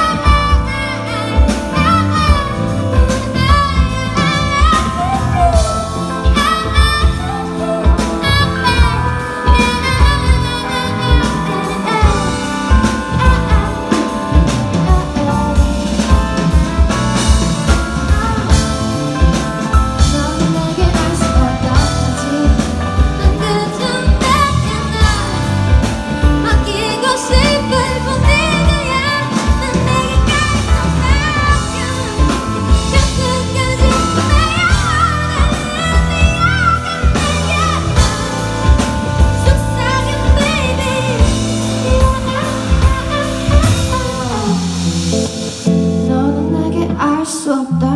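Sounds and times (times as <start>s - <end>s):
drum kit beat: 0.0s - 47.0s
person singing: 0.0s - 47.9s.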